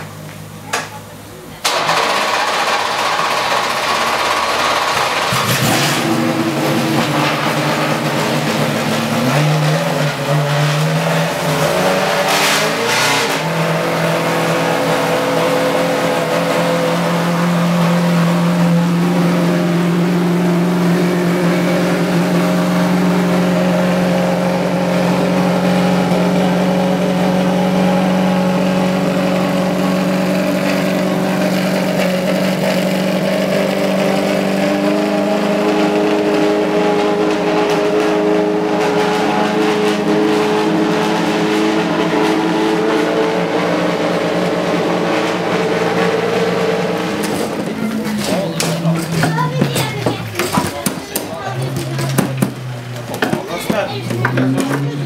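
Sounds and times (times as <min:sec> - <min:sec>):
racing engine starting and revving: 0:01.6 - 0:55.0.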